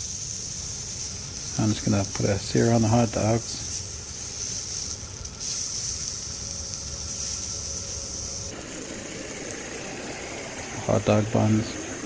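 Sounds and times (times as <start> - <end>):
hot dogs sizzling in a frying pan: 0.0 - 12.0.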